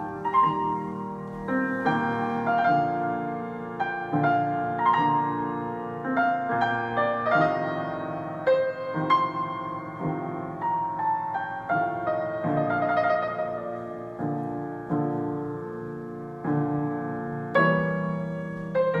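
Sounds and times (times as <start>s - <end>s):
piano notes and chords: 0.0s - 19.0s.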